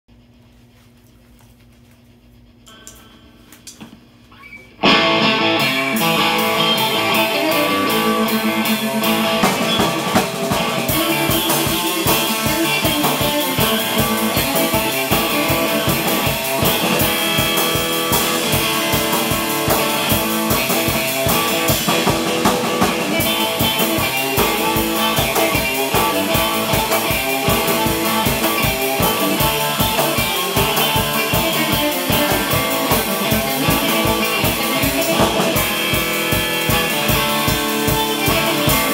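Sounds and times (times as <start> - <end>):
drum kit beat: 4.8 - 38.9
surf electric guitar riff: 4.8 - 38.9.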